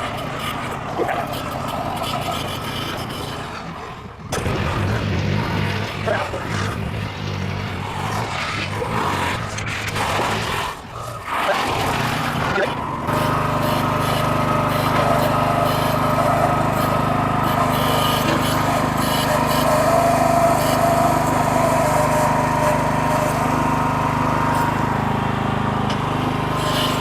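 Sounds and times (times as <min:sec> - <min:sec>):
wavering whine: 0:00.0 - 0:25.0
backhoe engine under load: 0:00.0 - 0:27.0.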